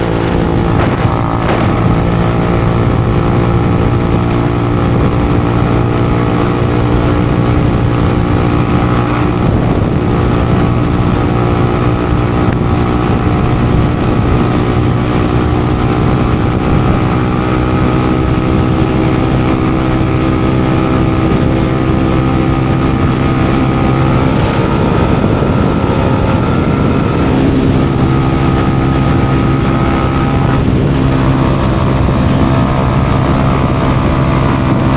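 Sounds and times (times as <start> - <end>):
engine exhaust running steadily: 0.0 - 34.9.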